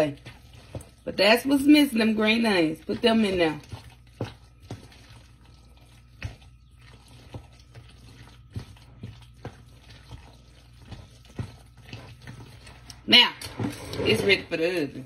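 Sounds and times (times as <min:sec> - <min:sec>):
spoon stirring wet mixture: 0:00.0 - 0:15.0.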